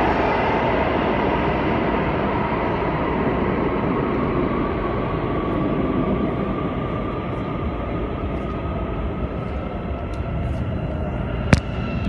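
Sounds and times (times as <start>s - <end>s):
train running through tunnel: 0.0s - 12.0s.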